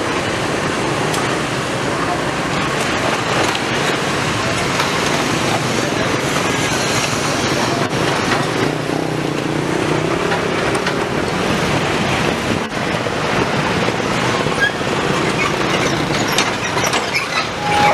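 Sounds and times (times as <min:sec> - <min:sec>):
locomotive engine running: 0:00.0 - 0:17.9
train wheels on track: 0:00.0 - 0:17.9.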